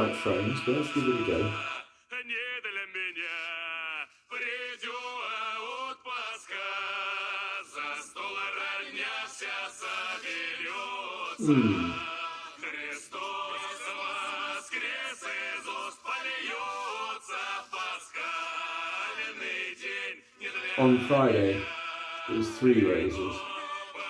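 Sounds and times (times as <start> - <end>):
men singing in chorus: 0.0 - 24.0.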